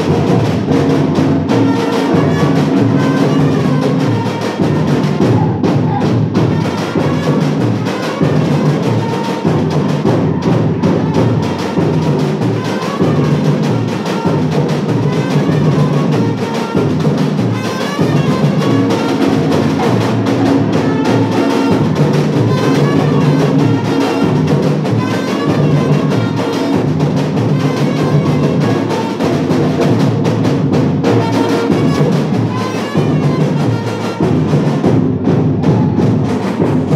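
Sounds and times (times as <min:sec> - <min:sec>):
samba drum ensemble: 0:00.0 - 0:36.9.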